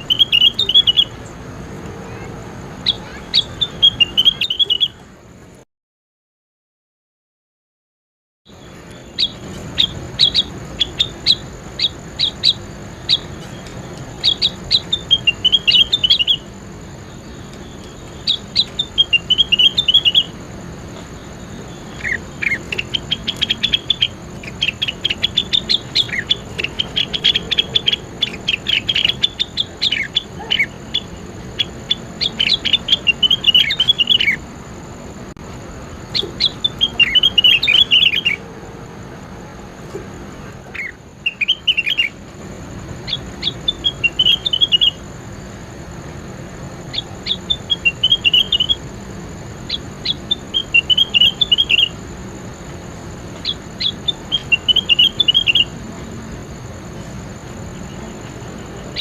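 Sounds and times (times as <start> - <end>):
songbird singing: 0.0 - 5.6, 8.5 - 59.0.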